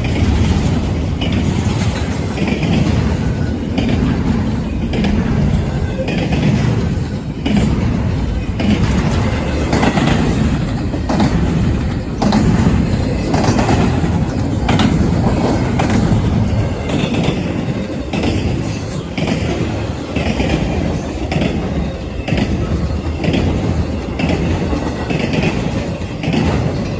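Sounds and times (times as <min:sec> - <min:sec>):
freight train rumbling past: 0:00.0 - 0:26.9
train wheel clacks: 0:00.0 - 0:26.9.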